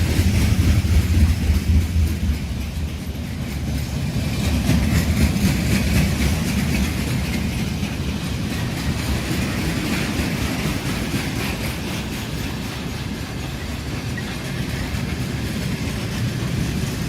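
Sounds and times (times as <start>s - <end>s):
rail joints clicking: 0.0s - 17.0s
train wheels rumbling on rails: 0.0s - 17.0s.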